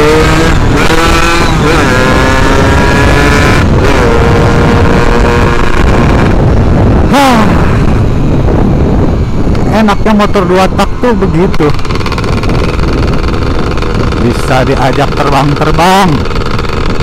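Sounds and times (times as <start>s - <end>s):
two-stroke motorcycle engine revving: 0.0s - 17.0s
wind rumble on microphone: 0.0s - 17.0s.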